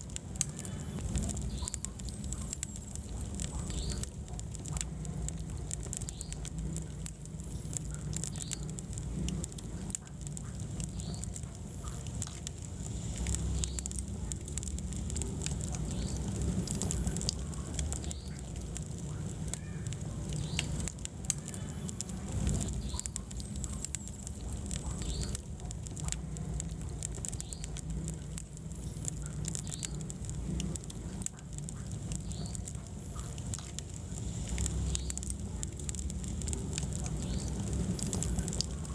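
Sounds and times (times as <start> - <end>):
fire crackling and popping: 0.0 - 38.9
fire rumbling: 0.0 - 38.9.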